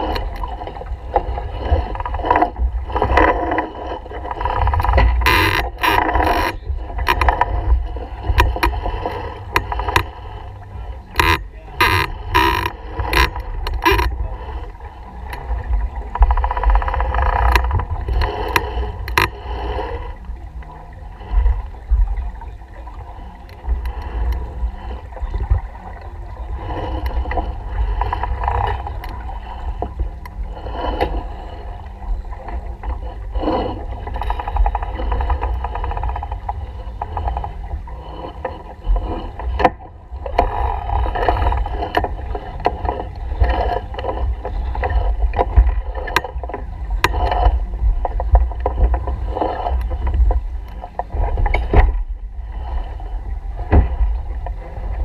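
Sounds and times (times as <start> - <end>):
water washing along hull: 0.0 - 55.0
wind buffeting microphone: 0.0 - 55.0.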